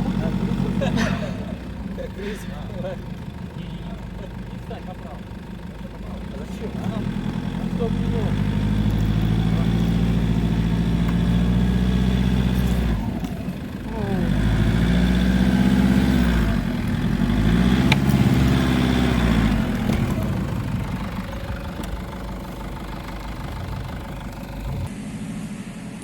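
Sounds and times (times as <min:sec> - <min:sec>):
engine revving under load: 0:00.0 - 0:25.9.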